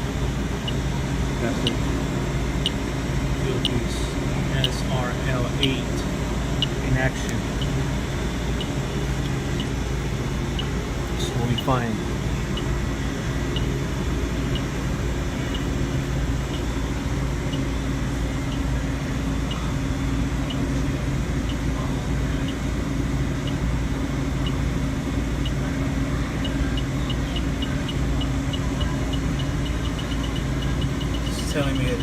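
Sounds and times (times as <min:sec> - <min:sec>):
leak detector ticking: 0:00.0 - 0:32.0
low machine hum: 0:00.0 - 0:32.0.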